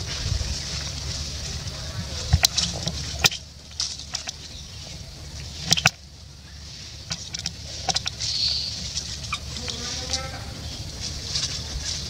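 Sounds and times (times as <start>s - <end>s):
dry leaves crackling and rustling: 0.0s - 12.0s.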